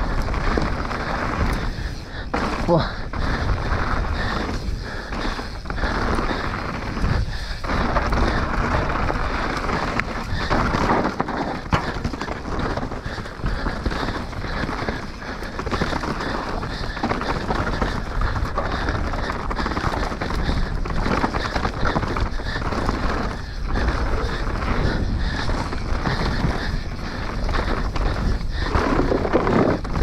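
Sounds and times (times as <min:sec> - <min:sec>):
mountain bike rattling on rough trail: 0:00.0 - 0:30.0
wind rushing over microphone: 0:00.0 - 0:30.0.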